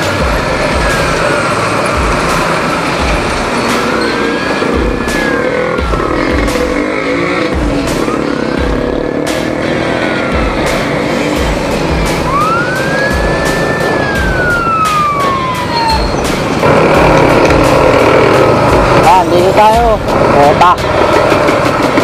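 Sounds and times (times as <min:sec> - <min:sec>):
slow wailing tone: 0:00.0 - 0:18.6
music with steady beat: 0:00.0 - 0:19.1
motorcycle riding noise: 0:00.0 - 0:22.0.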